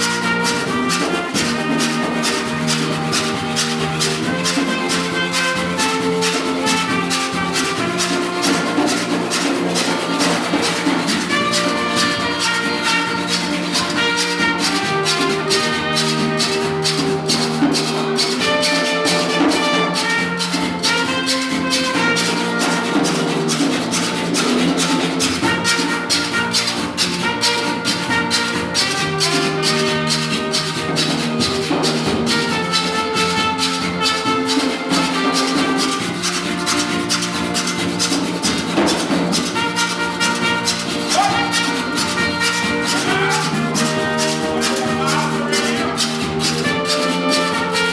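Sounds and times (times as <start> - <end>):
hand saw scraped rhythmically: 0.0 - 47.9
held melody notes: 0.0 - 47.9.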